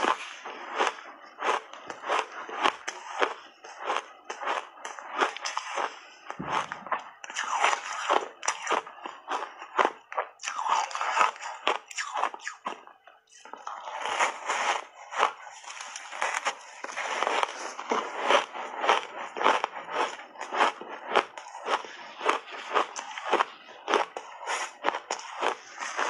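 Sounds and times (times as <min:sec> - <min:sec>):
ice crunching while chewed: 0:00.0 - 0:26.0.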